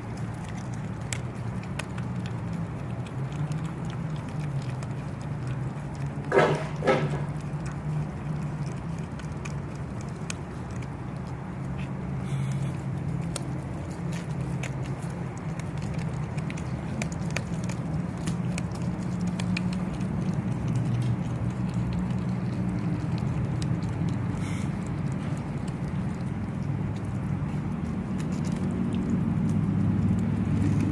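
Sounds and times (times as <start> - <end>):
dog chewing and crunching fish: 0.0 - 30.9.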